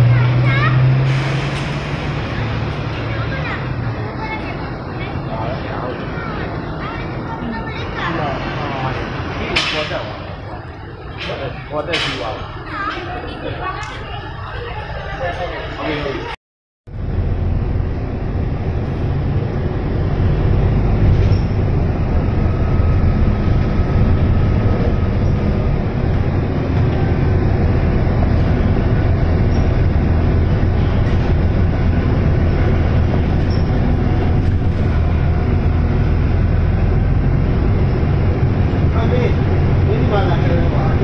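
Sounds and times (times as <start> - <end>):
bus diesel engine drone: 0.0 - 41.0
road noise: 0.0 - 41.0.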